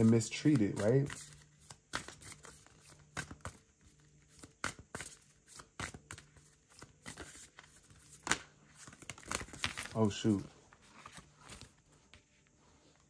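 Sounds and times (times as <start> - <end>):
cards shuffling: 0.0 - 13.0.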